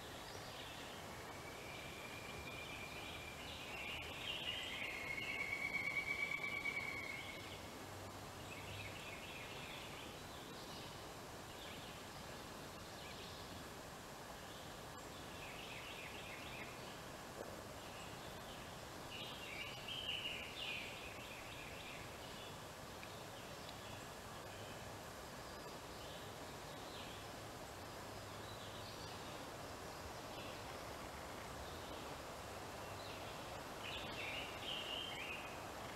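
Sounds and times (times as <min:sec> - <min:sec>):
faint outdoor background: 0:00.0 - 0:35.9.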